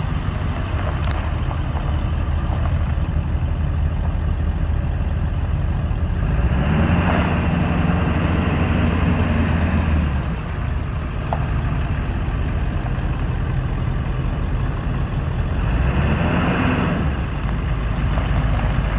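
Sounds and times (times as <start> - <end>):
pickup engine idling and revving: 0.0 - 18.9.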